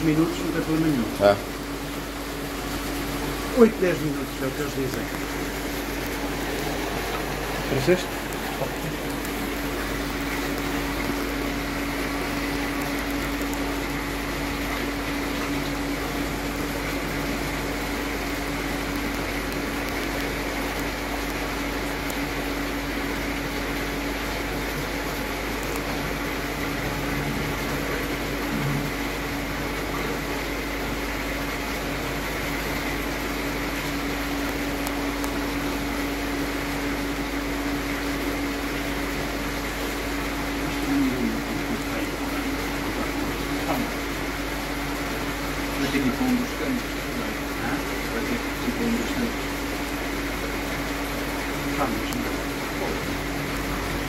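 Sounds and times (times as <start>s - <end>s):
steady electric hum: 0.0s - 54.0s.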